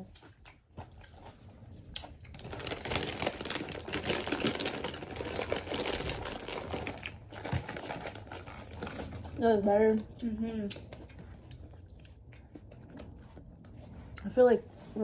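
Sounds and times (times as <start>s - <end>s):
chips being chewed: 0.0s - 9.4s, 10.0s - 14.3s.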